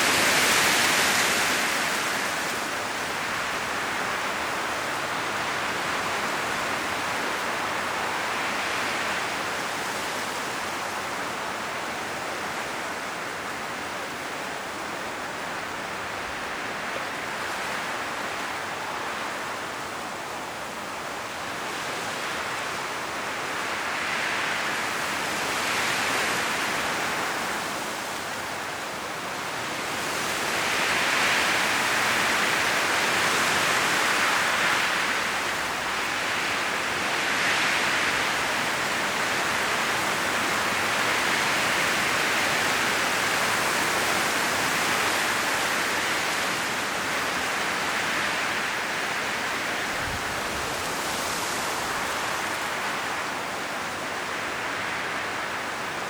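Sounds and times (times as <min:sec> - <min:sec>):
wind rustling leaves in trees: 0:00.0 - 0:56.0.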